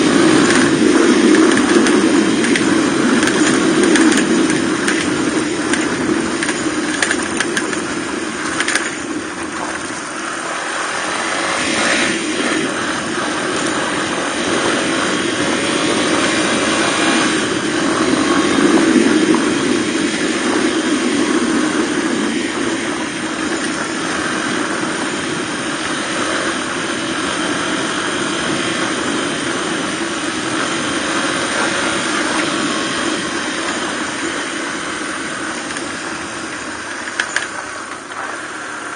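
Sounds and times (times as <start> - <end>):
continuous rushing noise: 0.0 - 38.9
motorcycle engine running: 0.0 - 38.9.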